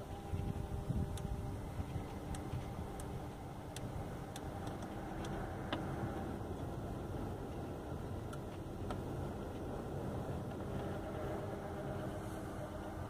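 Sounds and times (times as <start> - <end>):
low hum in car cabin: 0.0 - 13.0.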